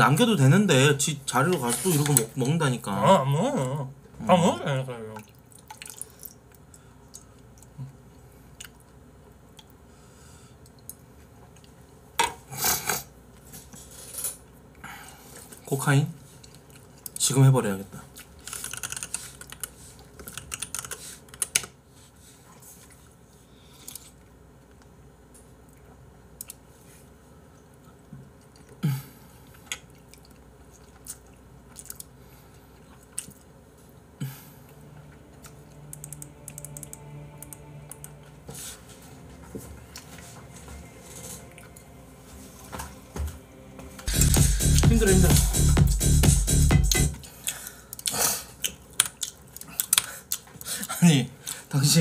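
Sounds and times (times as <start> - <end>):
faint low hum: 0.0 - 46.3.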